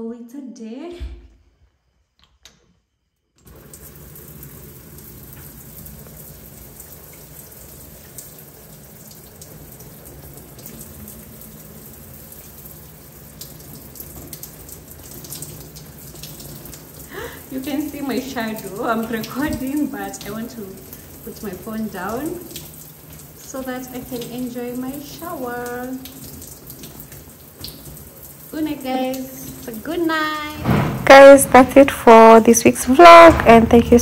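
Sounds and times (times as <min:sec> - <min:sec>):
shower water spraying: 0:03.4 - 0:34.0.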